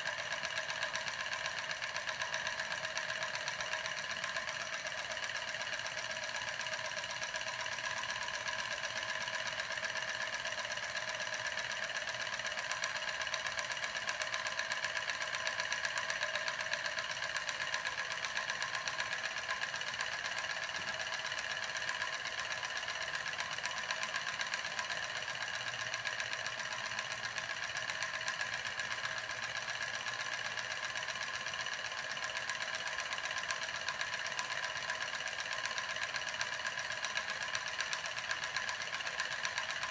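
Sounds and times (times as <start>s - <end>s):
model steam engine mechanical chatter: 0.0s - 39.9s.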